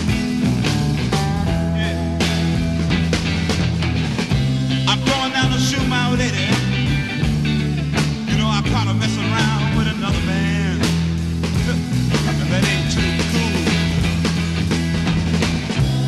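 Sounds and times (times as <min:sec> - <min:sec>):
bass line: 0:00.0 - 0:16.0
rock guitar: 0:00.0 - 0:16.0.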